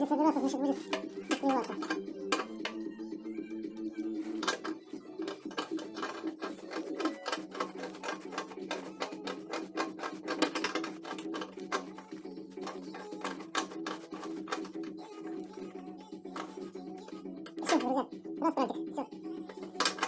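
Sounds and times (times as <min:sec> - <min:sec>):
pliers clicking and scraping metal: 0:00.4 - 0:02.9, 0:03.6 - 0:15.6, 0:16.3 - 0:17.9, 0:19.5 - 0:20.0.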